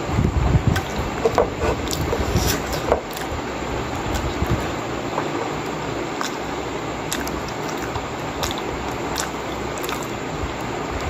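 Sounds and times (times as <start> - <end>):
steady background hiss: 0.0 - 11.0
person chewing food: 0.7 - 11.0.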